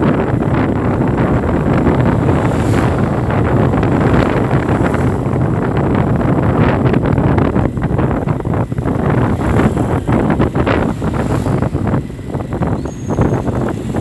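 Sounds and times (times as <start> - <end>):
street traffic: 0.0 - 14.0
wind buffeting the microphone: 0.0 - 14.0.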